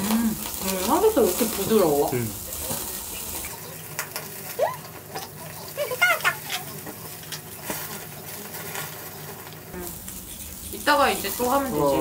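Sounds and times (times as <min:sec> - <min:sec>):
pork sizzling on a grill: 0:00.0 - 0:12.0.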